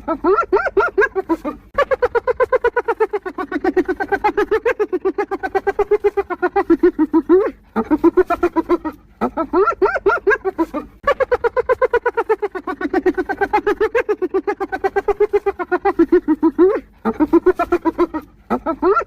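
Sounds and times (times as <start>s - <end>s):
hyena giggling calls: 0.0s - 19.0s.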